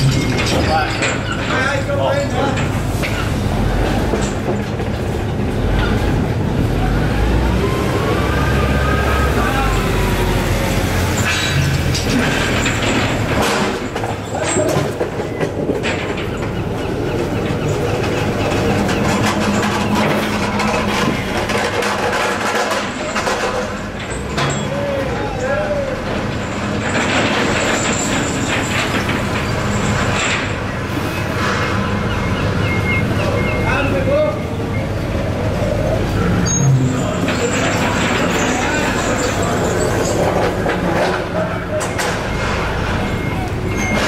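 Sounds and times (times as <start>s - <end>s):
forklift engine humming: 0.0s - 44.0s.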